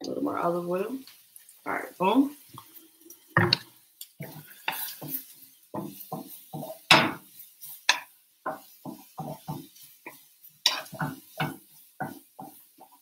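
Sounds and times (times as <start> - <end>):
wooden spatula scraping skillet: 0.5 - 13.0.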